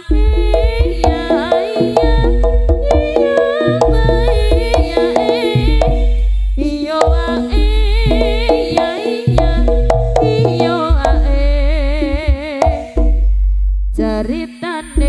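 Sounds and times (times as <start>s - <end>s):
wavering vibrato melody: 0.0s - 13.3s
ensemble music with hand drums: 0.0s - 13.9s
hand-drum strokes: 0.0s - 14.0s.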